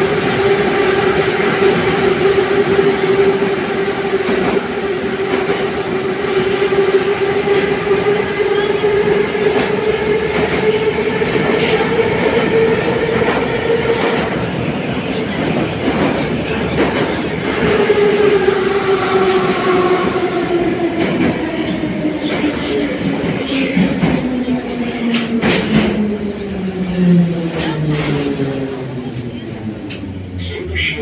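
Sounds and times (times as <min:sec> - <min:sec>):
continuous train whine: 0:00.0 - 0:31.0
metro train rumbling in tunnel: 0:00.0 - 0:31.0.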